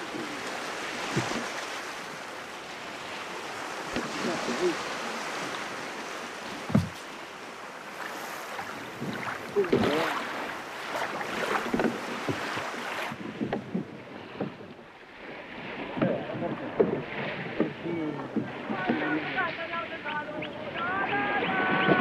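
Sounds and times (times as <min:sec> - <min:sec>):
sea noise: 0:00.0 - 0:22.0
wind: 0:00.0 - 0:22.0.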